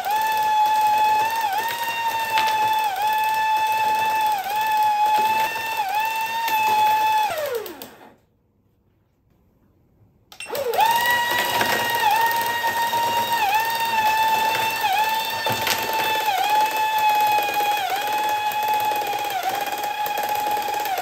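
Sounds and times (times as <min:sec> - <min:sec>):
small motor and gears whining: 0:00.0 - 0:08.2, 0:10.5 - 0:21.0.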